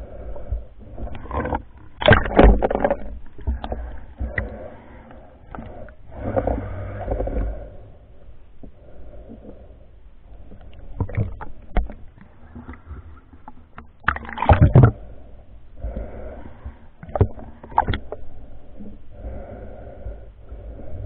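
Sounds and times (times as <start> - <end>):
muffled underwater sloshing: 0.0 - 21.0.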